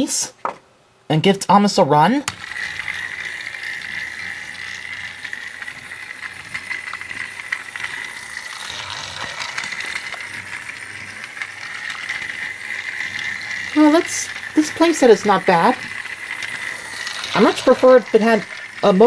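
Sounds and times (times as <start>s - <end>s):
toy train motor whirring: 2.2s - 19.0s.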